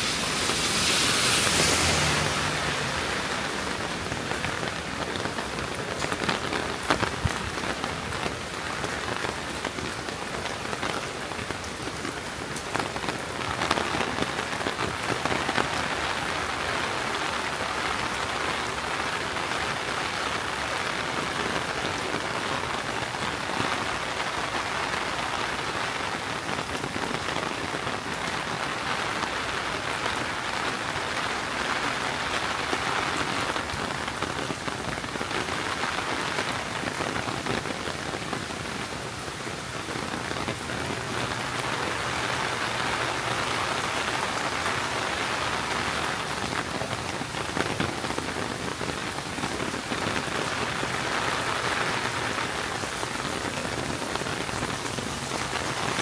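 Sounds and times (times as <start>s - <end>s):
close raindrop hits: 0.0s - 56.0s
rain pattering: 0.0s - 56.0s.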